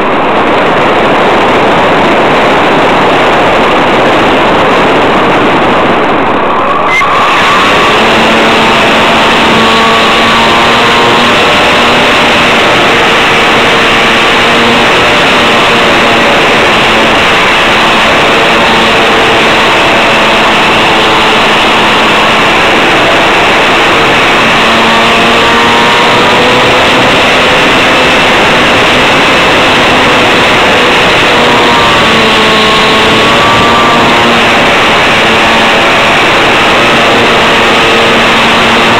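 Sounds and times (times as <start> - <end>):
model airplane motor and propeller: 0.0 - 38.9
wind rush on microphone: 0.0 - 38.9.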